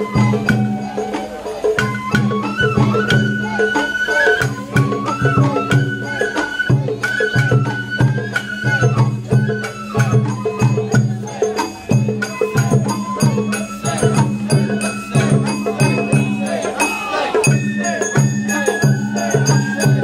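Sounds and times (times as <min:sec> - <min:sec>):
high bamboo flute: 0:00.0 - 0:20.0
taiko drums beating: 0:00.0 - 0:20.0.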